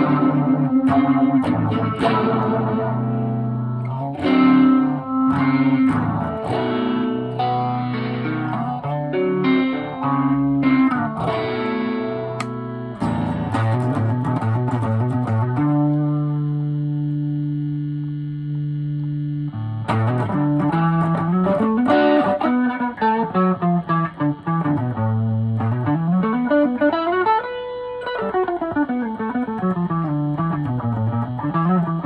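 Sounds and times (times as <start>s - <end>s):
electric guitar with phaser: 0.0s - 32.0s.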